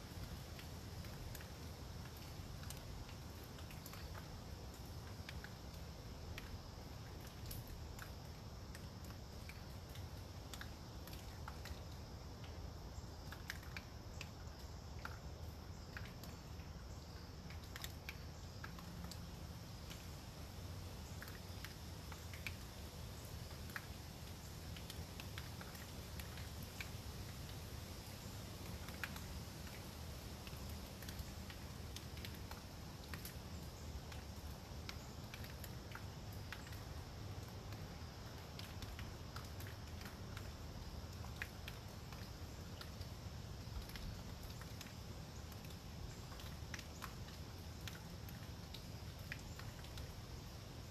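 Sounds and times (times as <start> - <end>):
water drops falling on leaves: 0.0 - 50.9.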